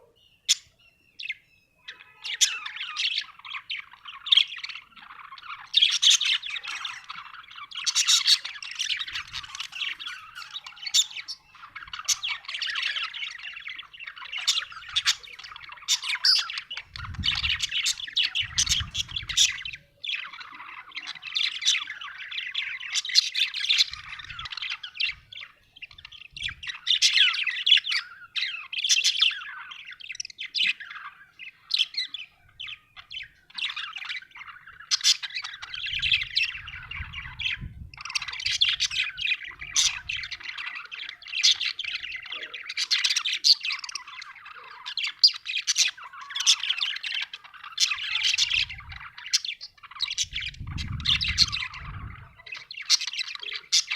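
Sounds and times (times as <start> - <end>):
budgerigar chattering: 0.0 - 25.2, 31.8 - 53.9.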